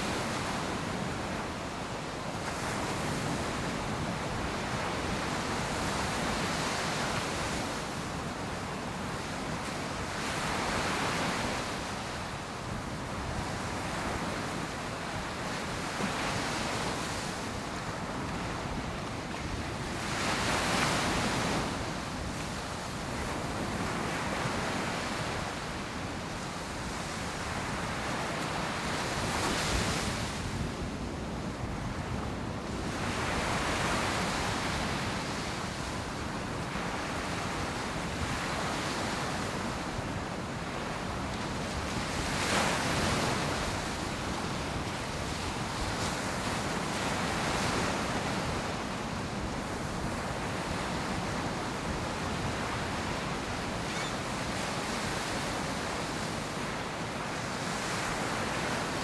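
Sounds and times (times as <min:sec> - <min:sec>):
waves crashing on a beach: 0:00.0 - 0:59.0.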